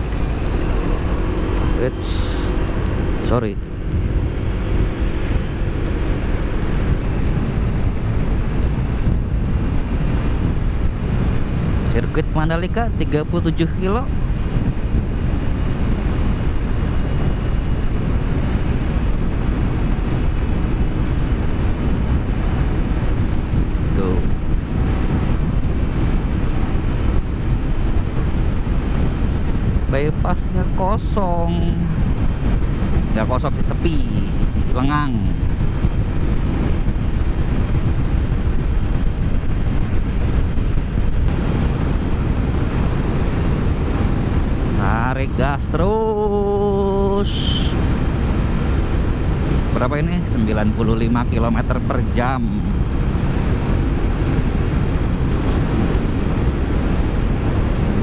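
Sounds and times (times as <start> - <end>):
motorcycle engine: 0.0 - 58.0
wind rush over microphone: 0.0 - 58.0.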